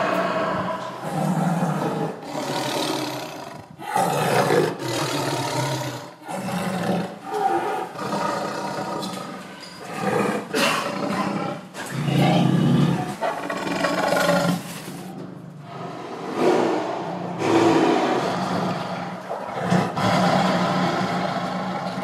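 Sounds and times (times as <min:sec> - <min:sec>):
lion growling and roaring: 0:00.0 - 0:22.0.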